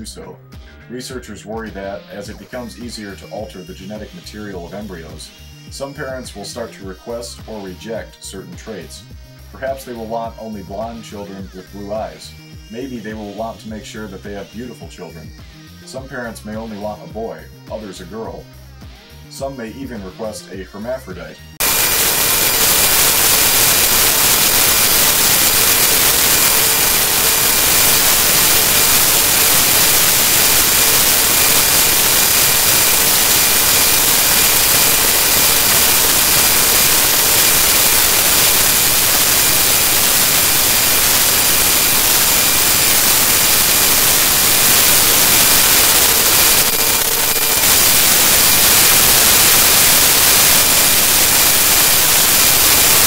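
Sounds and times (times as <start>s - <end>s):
loud static hiss: 1.8s - 16.4s, 21.4s - 53.0s.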